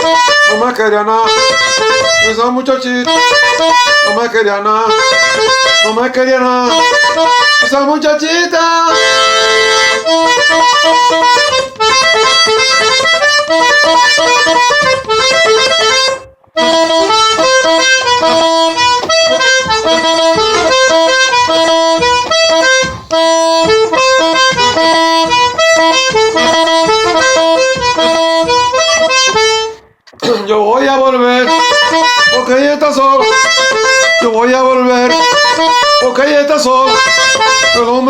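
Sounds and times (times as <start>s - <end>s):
accordion playing merengue: 0.0s - 38.0s.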